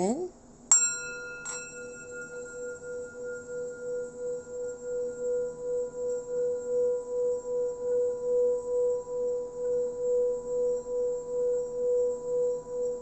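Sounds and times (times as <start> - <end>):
singing bowl ringing tone: 0.7 - 13.0.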